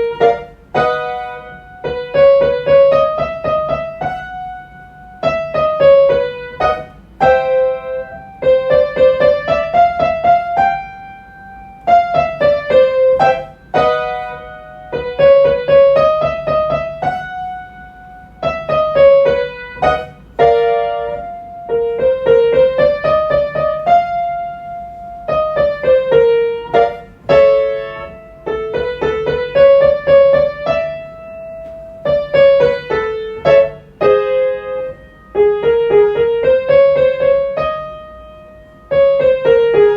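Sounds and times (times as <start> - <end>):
piano chord: 0.0 - 39.9
piano playing scales: 0.0 - 39.9.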